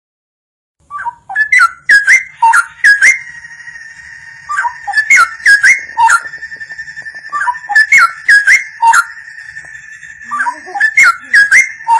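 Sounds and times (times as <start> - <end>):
bird singing whistled phrases: 0.9 - 11.9.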